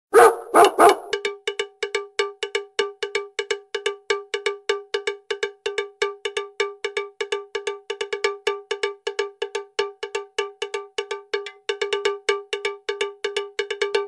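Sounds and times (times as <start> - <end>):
bell-like percussive tone: 0.5 - 14.0.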